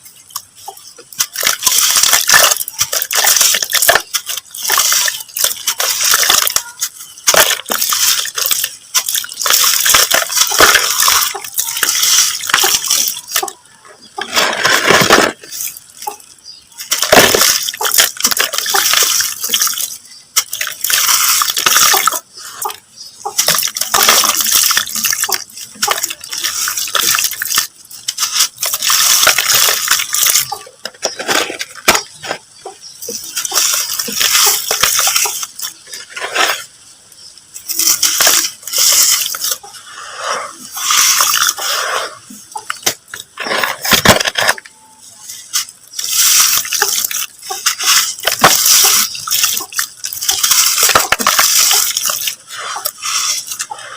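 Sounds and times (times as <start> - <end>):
mud crumbling by hand: 0.3 - 36.7, 37.6 - 39.9, 40.6 - 44.7, 45.6 - 53.9.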